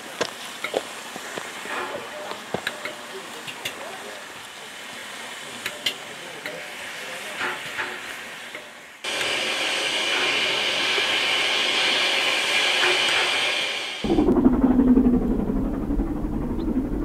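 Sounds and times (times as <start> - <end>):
steam hissing from locomotive: 0.0 - 14.1.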